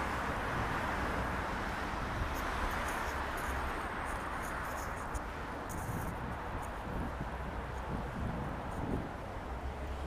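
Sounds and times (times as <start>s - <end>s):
street noise hiss: 0.0s - 10.0s.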